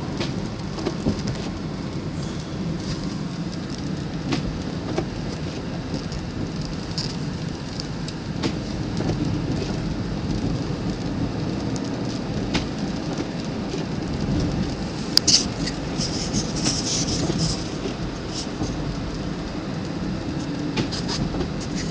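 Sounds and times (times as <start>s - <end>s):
car road rumble and tyre noise: 0.0s - 21.9s
ice ticks and crackles: 2.8s - 21.9s.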